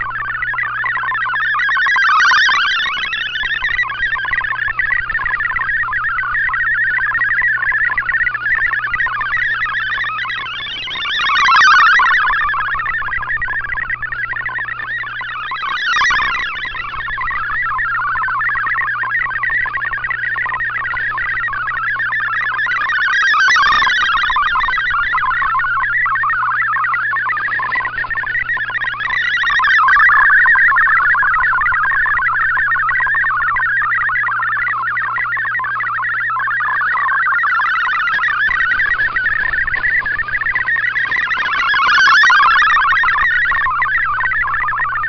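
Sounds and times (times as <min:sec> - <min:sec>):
low hum: 0:00.0 - 0:45.0
warbling digital data signal: 0:00.0 - 0:45.0.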